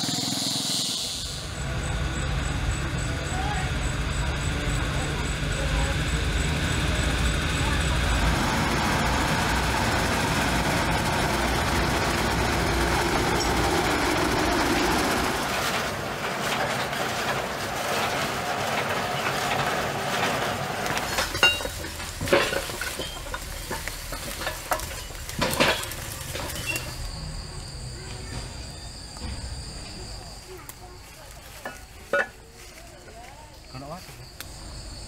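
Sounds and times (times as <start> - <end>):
heavy vehicle engine rumbling: 0.0 - 35.0.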